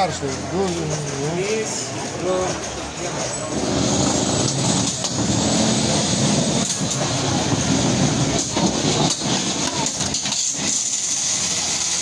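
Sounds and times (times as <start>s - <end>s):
robots rattling and clattering: 0.0s - 12.0s.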